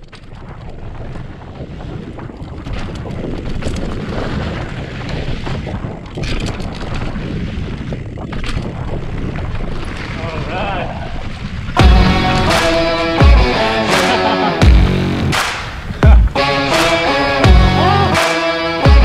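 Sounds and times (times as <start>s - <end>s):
sharp crackles: 0.0s - 17.5s
wind buffeting microphone: 0.0s - 19.0s.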